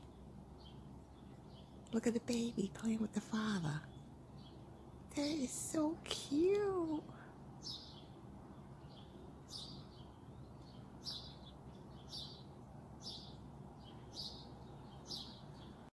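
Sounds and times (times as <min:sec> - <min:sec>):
faint steady hum: 0:00.0 - 0:15.9
small bird chirping: 0:00.0 - 0:15.9.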